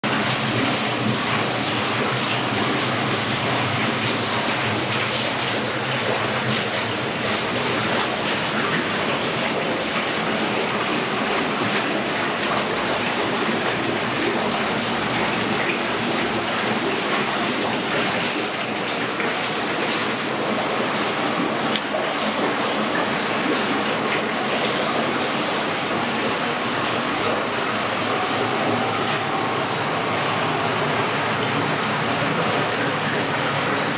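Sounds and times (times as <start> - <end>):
water running into a bath: 0.0 - 33.9.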